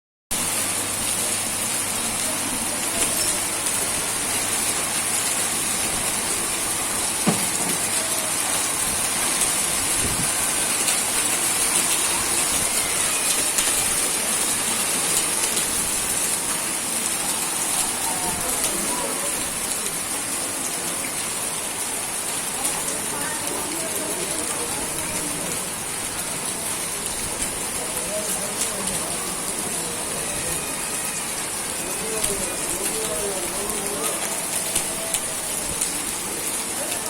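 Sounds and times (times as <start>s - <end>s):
heavy rain falling: 0.3s - 37.0s
sharp ticks of raindrops: 0.4s - 37.0s.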